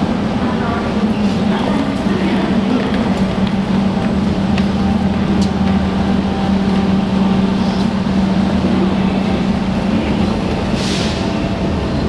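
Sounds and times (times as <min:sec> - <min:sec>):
train standing low hum: 0:00.0 - 0:12.0.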